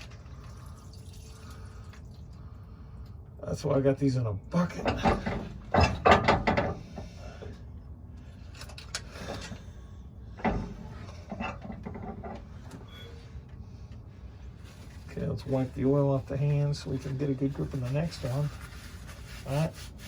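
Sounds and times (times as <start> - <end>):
low steady background noise: 0.0 - 20.0.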